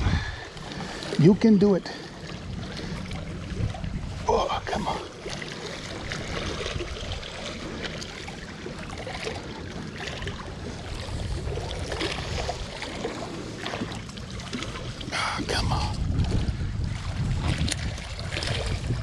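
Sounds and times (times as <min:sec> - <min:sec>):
water lapping at shore: 0:00.0 - 0:19.0
wind rumbling on microphone: 0:00.0 - 0:19.0.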